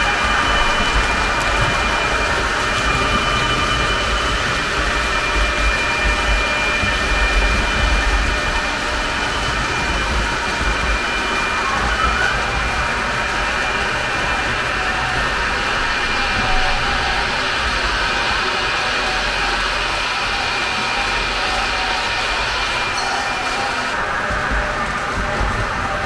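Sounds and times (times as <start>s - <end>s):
high-pitched motor whine: 0.0s - 26.0s
model train rolling rumble: 0.0s - 26.0s.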